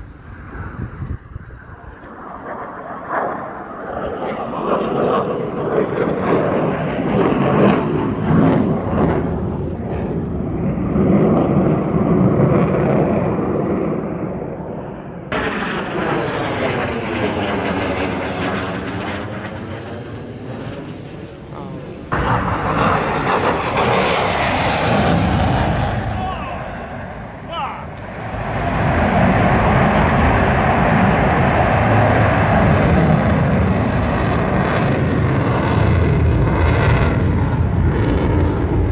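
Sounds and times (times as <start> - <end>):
fighter jet roar: 0.0 - 38.9.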